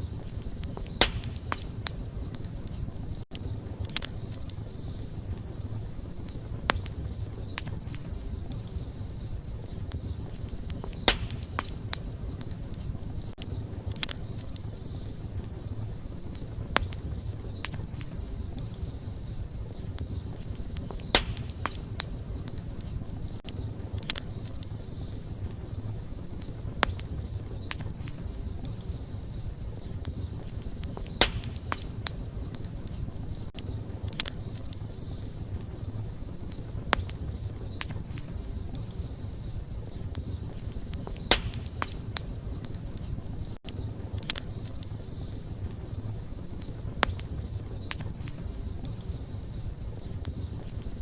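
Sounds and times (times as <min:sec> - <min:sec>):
bonfire flame rumbling: 0:00.0 - 0:51.0
campfire crackling: 0:00.0 - 0:51.0.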